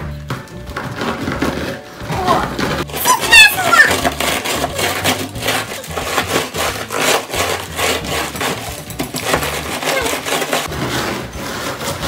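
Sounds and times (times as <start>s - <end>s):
rolling pin crushing cookies: 0.0s - 12.0s.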